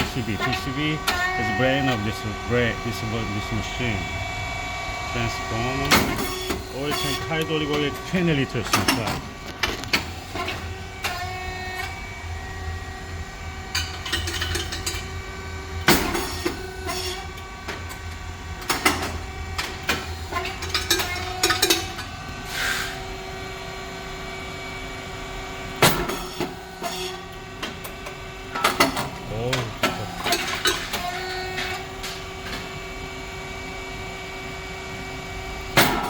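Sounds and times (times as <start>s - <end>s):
machine motor and fan hum: 0.0s - 36.0s.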